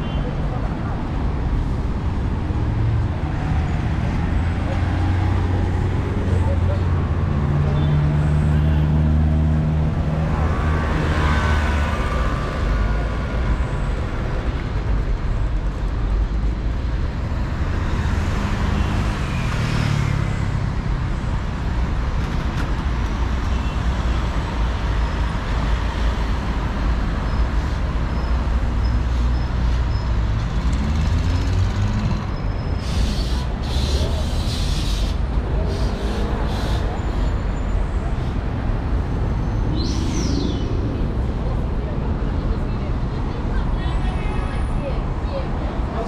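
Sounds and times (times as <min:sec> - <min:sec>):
vehicles passing close by: 0:00.0 - 0:46.0.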